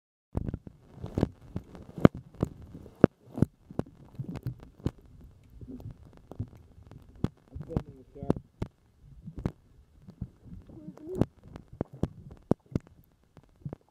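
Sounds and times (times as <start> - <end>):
muffled underwater rumble: 0.4 - 13.9.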